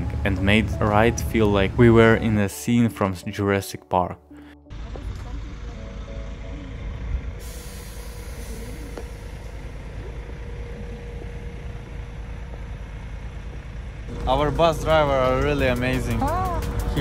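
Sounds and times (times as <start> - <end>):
bus engine rumbling: 0.0 - 2.9, 4.4 - 17.0.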